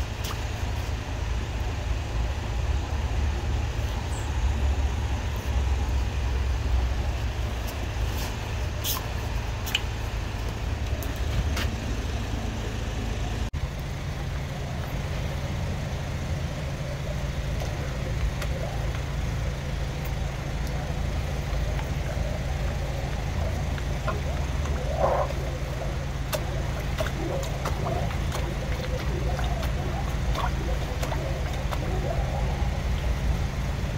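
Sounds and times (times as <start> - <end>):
drain jetting machine engine running: 0.0 - 33.9.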